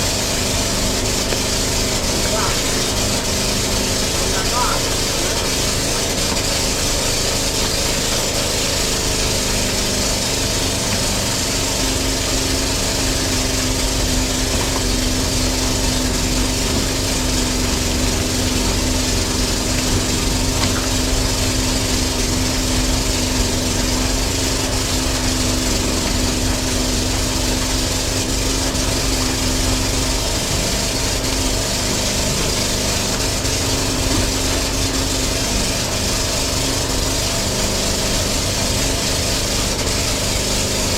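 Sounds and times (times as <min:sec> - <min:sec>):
chaff cutter running: 0:00.0 - 0:40.9.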